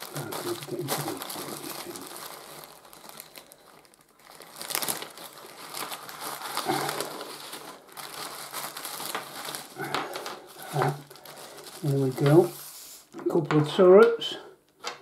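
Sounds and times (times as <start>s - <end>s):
plastic bag and paper crinkling: 0.0s - 15.0s.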